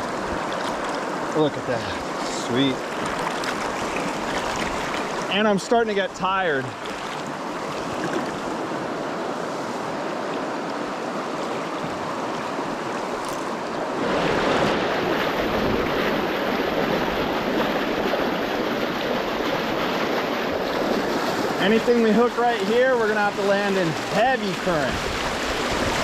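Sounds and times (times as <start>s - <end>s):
rushing river water: 0.0s - 26.0s.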